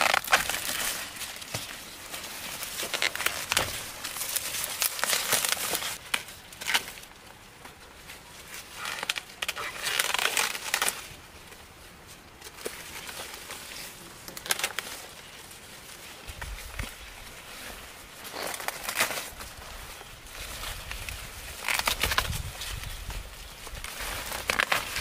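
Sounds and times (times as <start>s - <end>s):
corn stalks snapping: 0.0s - 7.1s, 8.6s - 11.1s, 12.4s - 15.3s, 16.3s - 25.0s
dry corn leaves rustling: 0.0s - 25.0s.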